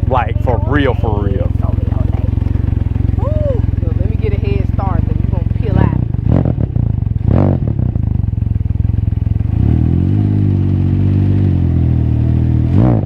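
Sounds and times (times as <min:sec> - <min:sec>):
engine rumble revving: 0:00.0 - 0:13.0.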